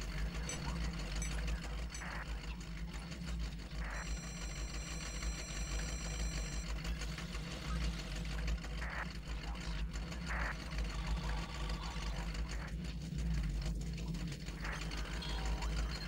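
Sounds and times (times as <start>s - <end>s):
low mechanical rumble and hum: 0.0s - 16.0s.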